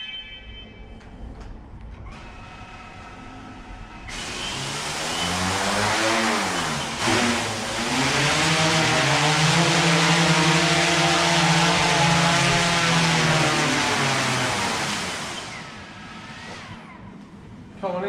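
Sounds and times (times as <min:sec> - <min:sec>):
drone motors and propellers spinning: 0:02.0 - 0:17.6.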